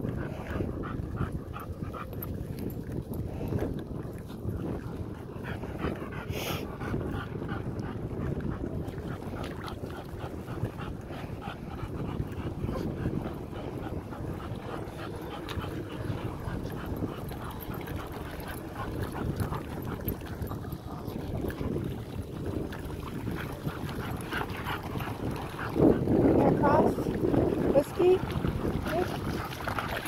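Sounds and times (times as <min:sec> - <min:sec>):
dogs splashing in shallow water: 0:00.0 - 0:30.0.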